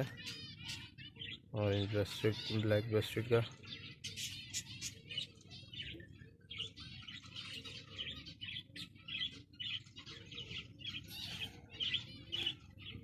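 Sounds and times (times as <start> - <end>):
finches chirping: 0.0 - 13.0.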